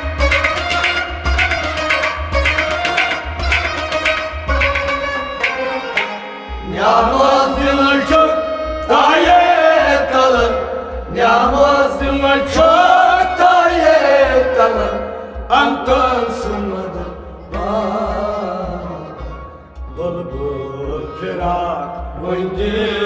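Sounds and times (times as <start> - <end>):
drum accompaniment: 0.0 - 23.0
instrumental music: 0.0 - 23.0.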